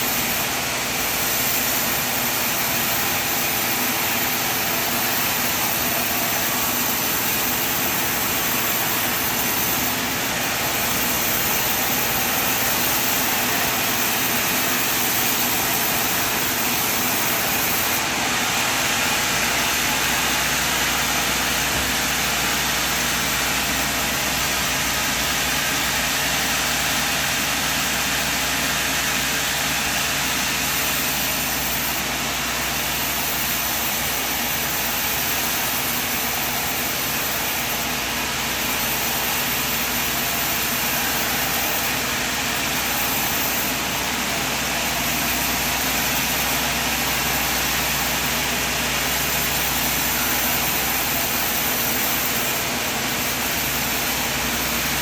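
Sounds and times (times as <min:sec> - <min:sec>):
sawmill machine running: 0:00.0 - 0:55.0.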